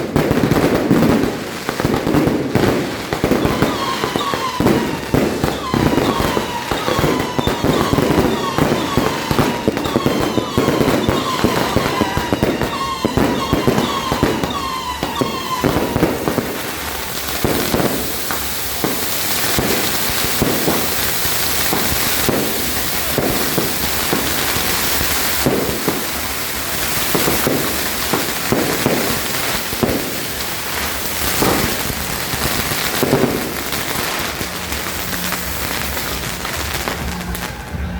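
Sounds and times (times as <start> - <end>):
dense fireworks crackling: 0.0 - 37.9
fireworks bangs: 0.0 - 37.9
fireworks whistles: 0.0 - 37.9.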